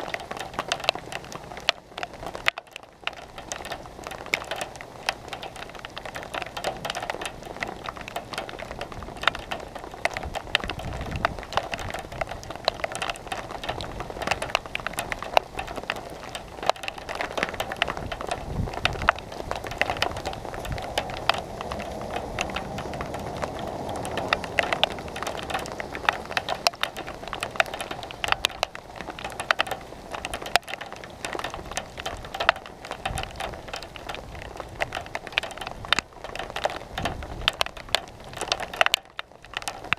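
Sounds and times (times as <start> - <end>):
raindrops ticking on hard surface: 0.0 - 39.9.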